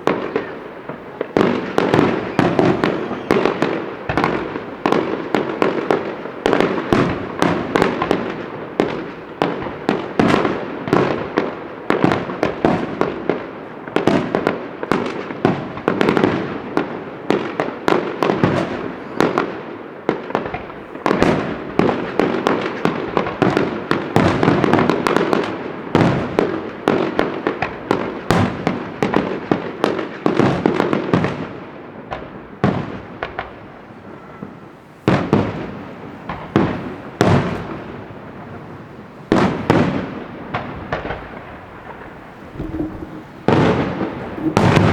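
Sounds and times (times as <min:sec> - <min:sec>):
fireworks banging: 0:00.0 - 0:44.9.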